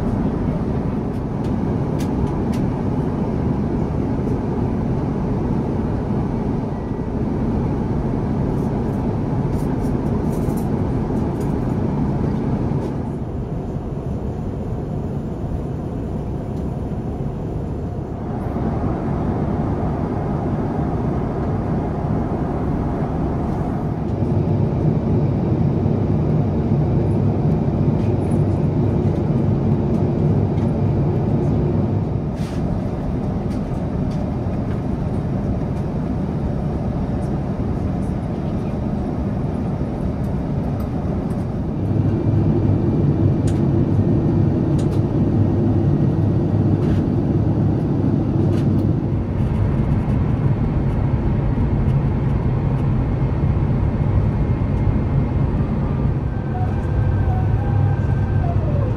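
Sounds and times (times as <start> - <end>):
rumble of engines and airflow: 0.0 - 58.9.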